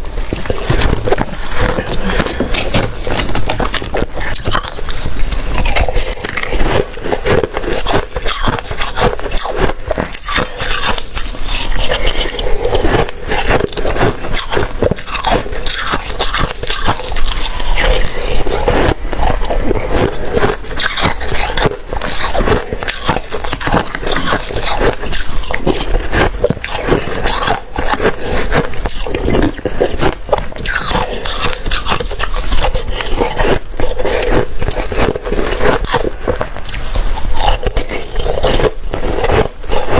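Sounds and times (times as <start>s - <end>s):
chewing slushy ice: 0.0s - 39.9s.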